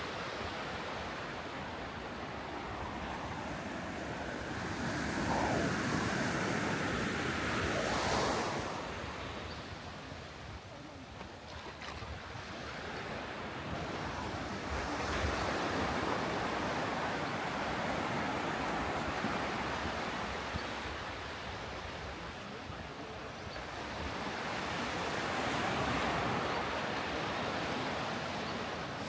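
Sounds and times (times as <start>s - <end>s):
waves breaking on sandy beach: 0.0s - 29.0s.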